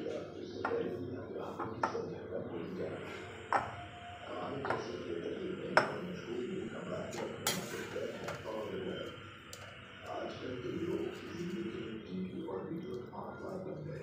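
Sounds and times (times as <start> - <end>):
faint murmur of voices: 0.0 - 14.0.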